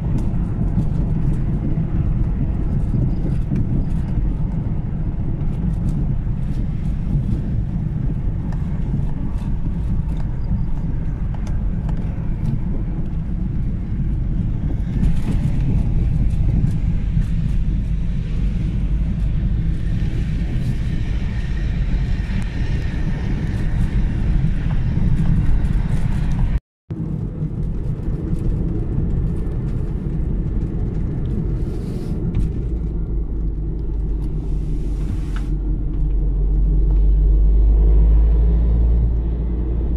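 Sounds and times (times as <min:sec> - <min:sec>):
car driving rumble: 0:00.0 - 0:39.9
road and wind noise: 0:00.0 - 0:39.9.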